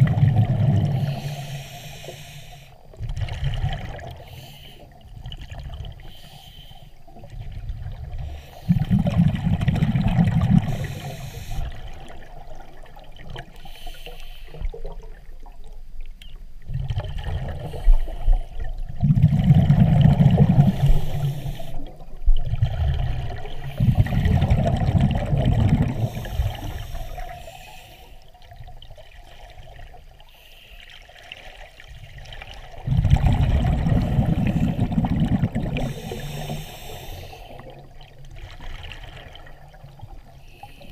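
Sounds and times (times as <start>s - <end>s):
exhaled air bubbling underwater: 0.0s - 40.9s.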